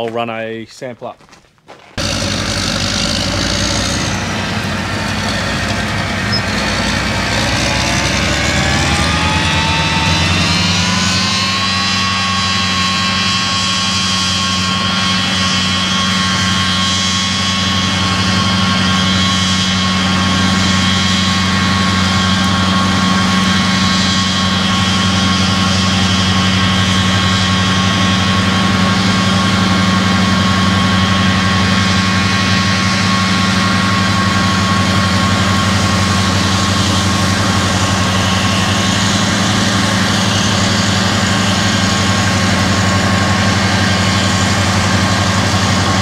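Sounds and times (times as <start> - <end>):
vehicle engine revving: 2.0 - 46.0.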